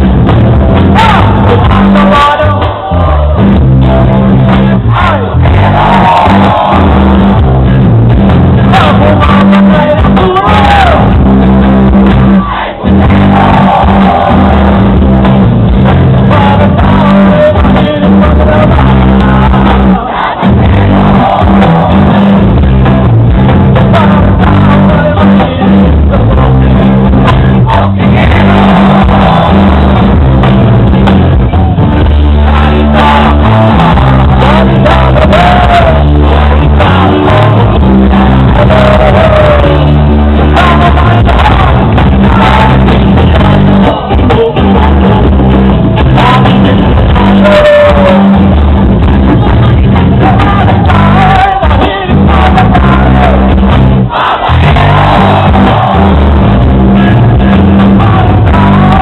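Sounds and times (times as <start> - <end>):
live rock band playing: 0.0 - 59.0
person singing: 0.9 - 3.6, 4.3 - 11.3, 12.0 - 15.1, 15.8 - 59.0.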